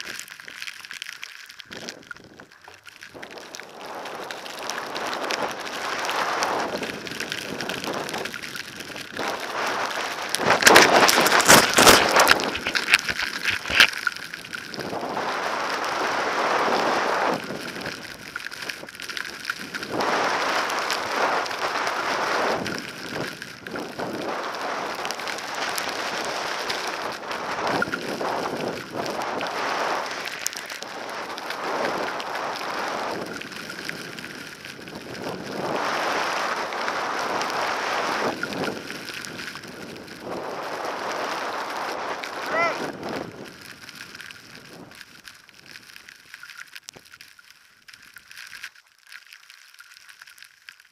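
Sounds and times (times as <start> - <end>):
skis scraping on snow: 0.0 - 50.9
wind buffeting microphone: 1.7 - 45.1.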